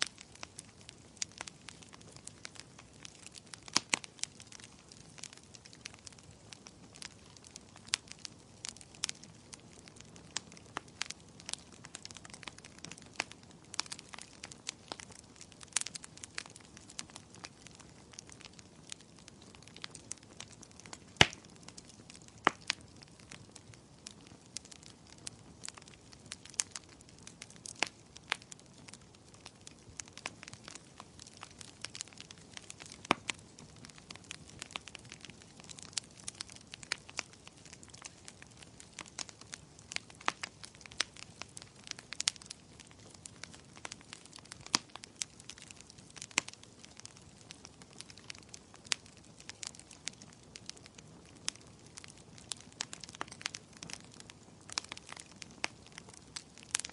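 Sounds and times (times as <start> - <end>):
faint hiss of flames: 0.0 - 56.9
firewood crackling and popping: 0.0 - 56.9.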